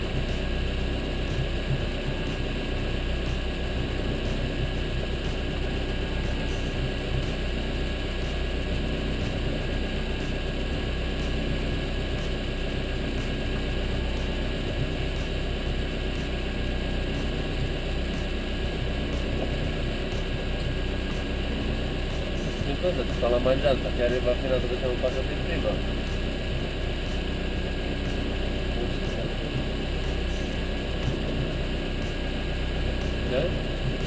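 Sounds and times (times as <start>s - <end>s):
boat engine humming: 0.0s - 34.0s.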